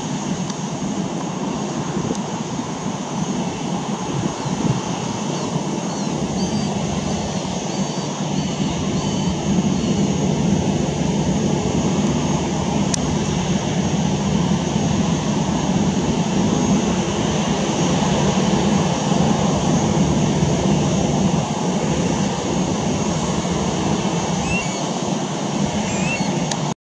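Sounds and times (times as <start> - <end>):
jet engines running at low thrust: 0.0 - 26.8.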